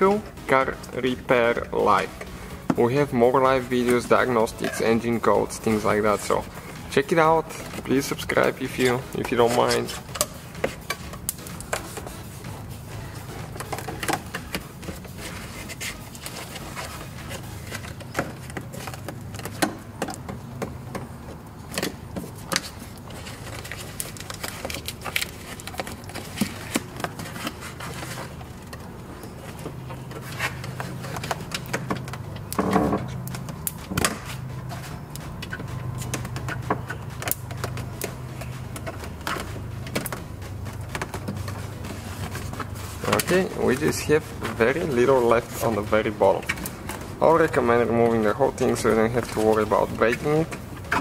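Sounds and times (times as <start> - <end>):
foam insulation peeling crackles: 0.0 - 51.0
steady low hum: 0.0 - 51.0.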